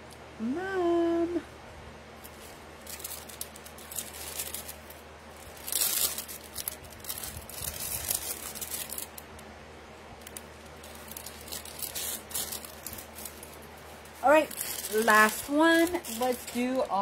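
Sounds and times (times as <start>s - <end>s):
plastic bag crinkling: 2.2s - 9.4s, 10.2s - 17.0s.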